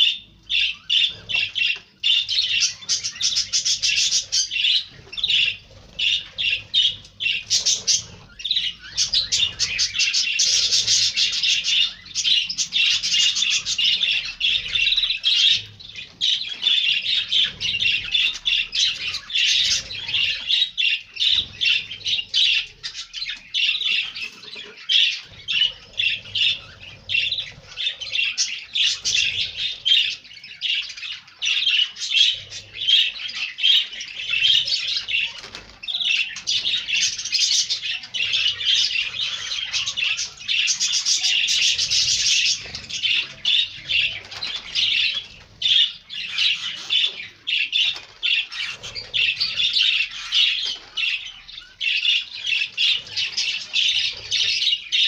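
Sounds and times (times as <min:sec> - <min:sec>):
canaries chirping and twittering: 0:00.0 - 0:55.0.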